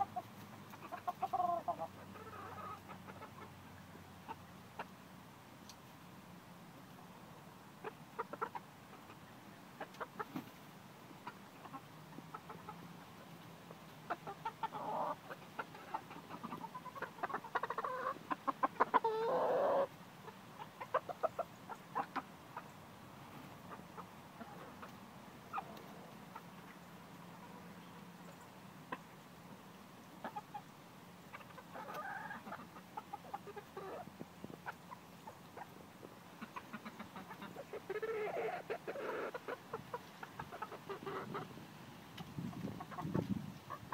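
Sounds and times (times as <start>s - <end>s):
chickens clucking: 0.0s - 6.1s, 6.8s - 43.9s.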